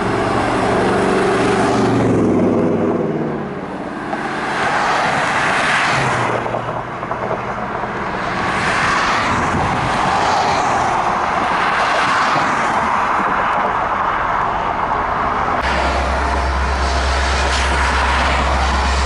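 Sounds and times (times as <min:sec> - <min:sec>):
cars passing on highway: 0:00.0 - 0:19.0.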